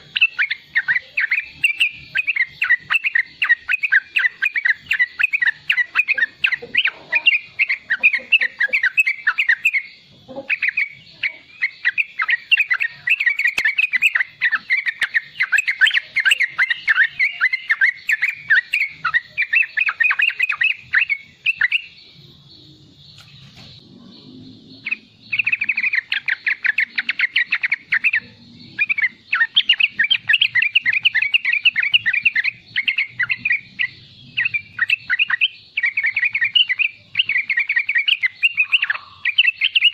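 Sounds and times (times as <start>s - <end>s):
bulbul twittering chatter: 0.0s - 39.9s.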